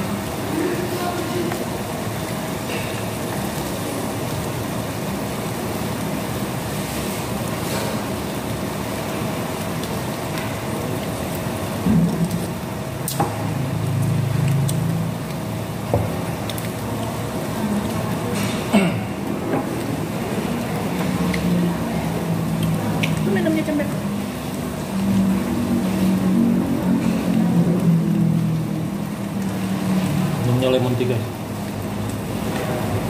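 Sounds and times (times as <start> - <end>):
continuous hiss: 0.0 - 33.0.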